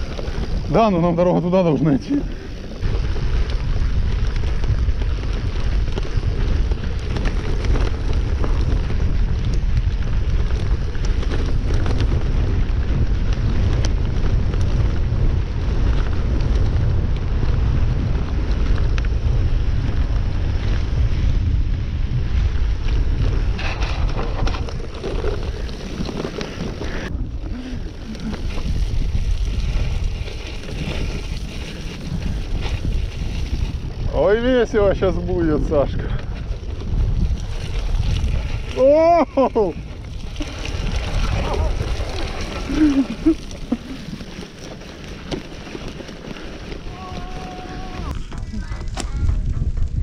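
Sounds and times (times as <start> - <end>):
bicycle clicks and rattles: 0.0 - 50.0
bicycle tyres on dirt: 0.0 - 50.0
wind buffeting microphone: 0.0 - 50.0.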